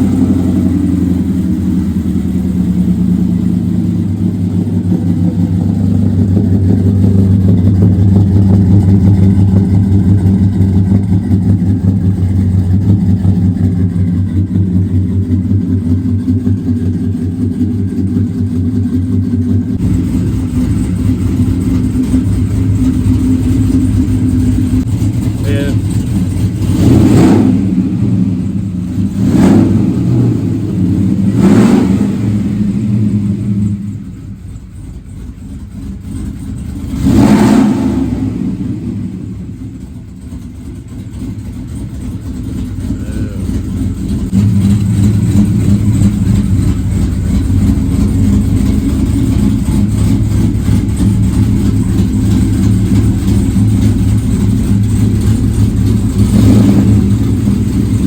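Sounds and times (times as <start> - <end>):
engine revving: 0.0 - 34.2, 36.8 - 39.9, 42.2 - 58.0.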